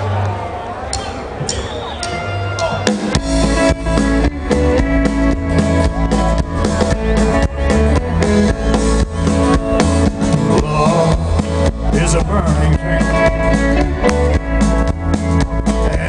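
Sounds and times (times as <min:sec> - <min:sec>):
bass guitar: 0:00.0 - 0:16.0
drum kit beat: 0:01.0 - 0:16.0
electric guitar: 0:02.0 - 0:16.0.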